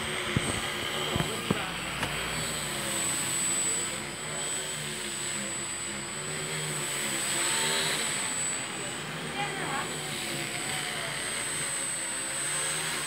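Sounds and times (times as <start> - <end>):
drone motors and propellers whirring: 0.0 - 13.0.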